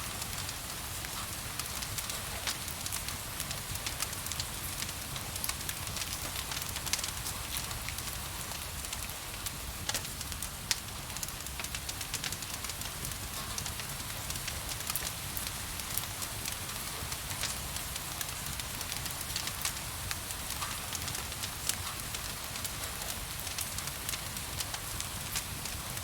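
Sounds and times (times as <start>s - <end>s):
wood fire crackling and popping: 0.1s - 26.0s.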